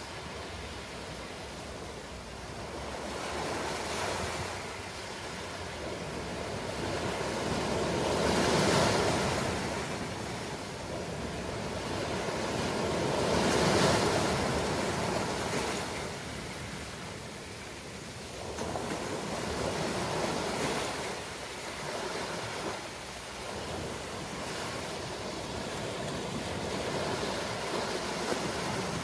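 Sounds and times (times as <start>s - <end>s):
ocean waves breaking on shore: 0.0s - 29.0s.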